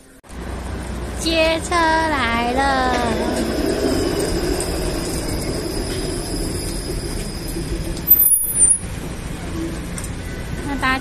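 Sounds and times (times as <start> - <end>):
tram running gear rumble: 0.0 - 11.0.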